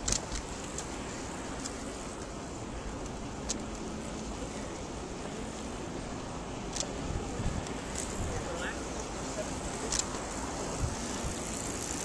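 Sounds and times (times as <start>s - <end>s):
bicycle tyres on asphalt: 0.0s - 12.0s
wind noise: 0.0s - 12.0s.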